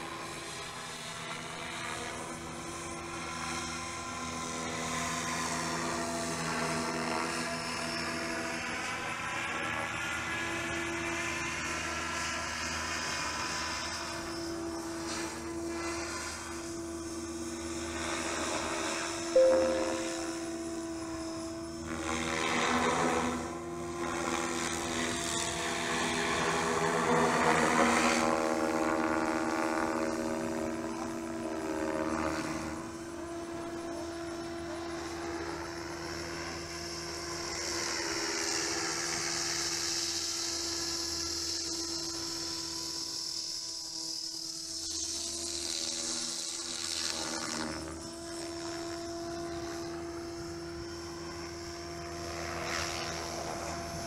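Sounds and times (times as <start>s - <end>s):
rc helicopter rotor whine: 0.0s - 54.0s.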